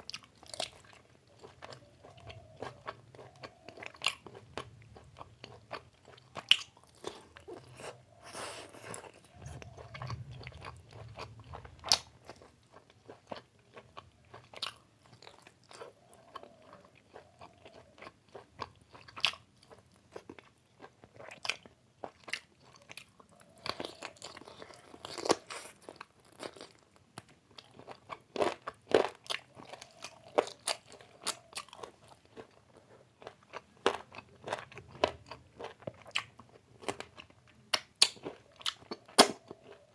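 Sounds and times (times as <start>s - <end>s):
faint low hum: 0.0s - 39.9s
person chewing food: 0.0s - 39.9s.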